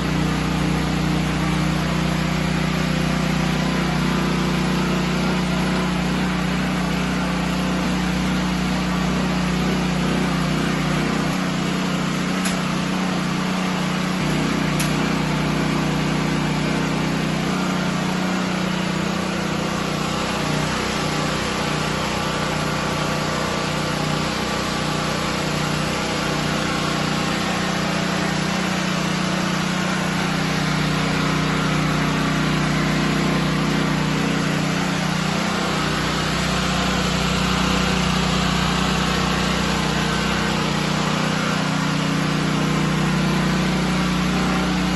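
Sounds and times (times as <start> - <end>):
portable generator engine running: 0.0 - 44.9.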